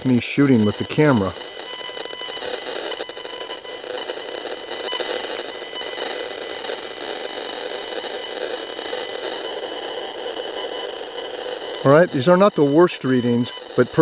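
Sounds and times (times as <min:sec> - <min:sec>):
crackling buzz: 0:00.0 - 0:14.0
high-pitched whine with fixed tones: 0:00.0 - 0:14.0.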